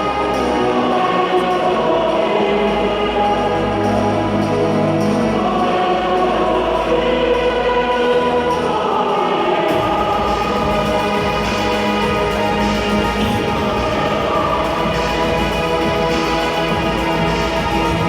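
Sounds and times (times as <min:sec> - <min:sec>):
choir singing held chords: 0:00.0 - 0:18.0
full accompaniment: 0:00.0 - 0:18.0.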